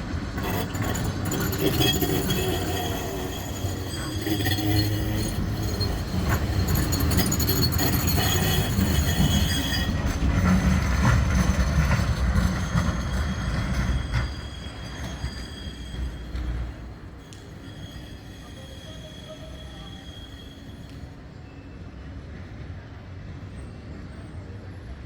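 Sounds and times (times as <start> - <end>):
tram rumbling on rails: 0.0 - 25.0
wheel squeal: 0.3 - 21.8.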